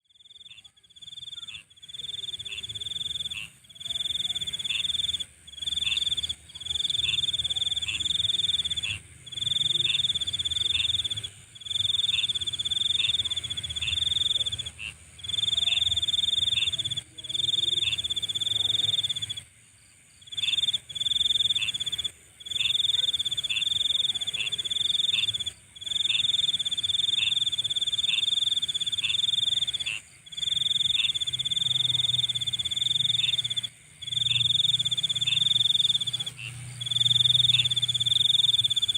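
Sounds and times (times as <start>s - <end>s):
insect high-pitched trill: 0.2s - 38.9s
shrill insect chorus: 0.2s - 38.9s.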